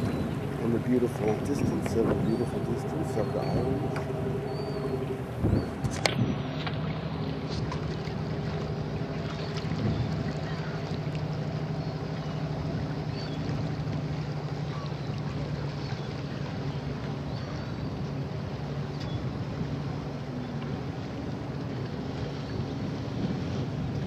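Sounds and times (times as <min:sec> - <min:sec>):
boat motor running steadily: 0:00.0 - 0:24.0
water noise: 0:00.0 - 0:24.0
wind: 0:00.0 - 0:24.0.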